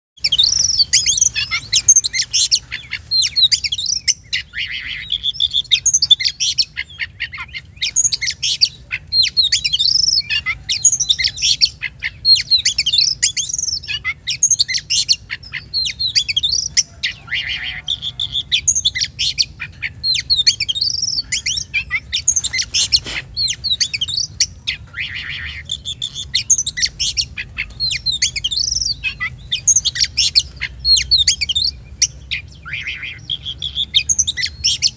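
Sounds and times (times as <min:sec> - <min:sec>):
bird singing whistles and trills: 0:00.2 - 0:34.9.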